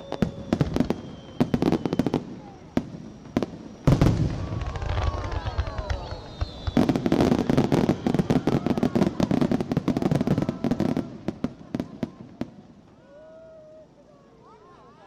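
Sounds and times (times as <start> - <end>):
fireworks crackling: 0.0 - 14.5.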